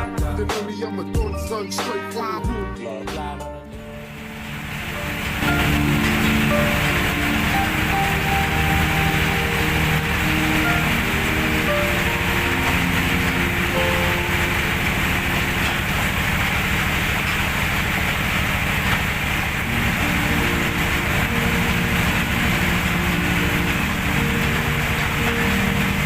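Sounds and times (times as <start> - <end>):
diesel engine running: 3.9 - 26.0.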